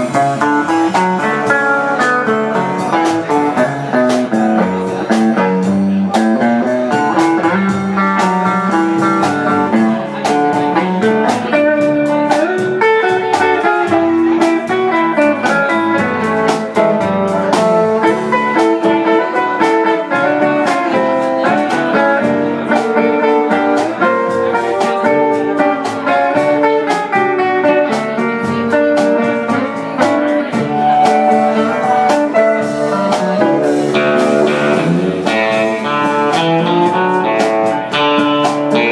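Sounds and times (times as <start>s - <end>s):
honky-tonk band playing: 0.0s - 38.9s.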